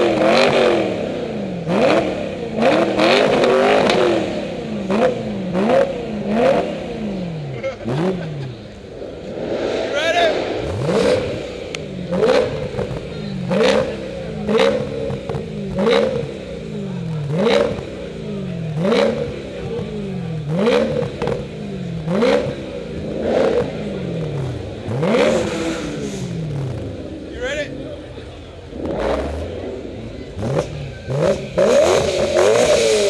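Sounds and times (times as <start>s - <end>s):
car engine revving: 0.0s - 33.0s
exhaust snap: 0.0s - 33.0s.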